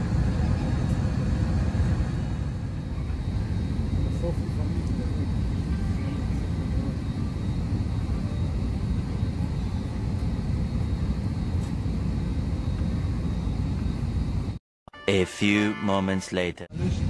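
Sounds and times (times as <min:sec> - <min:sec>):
airliner cabin rumble: 0:00.0 - 0:14.6.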